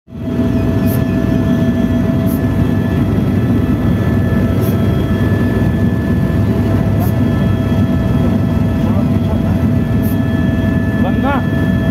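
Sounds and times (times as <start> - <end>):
helicopter rotor rumble: 0.1 - 11.9
whining tones: 0.1 - 11.9.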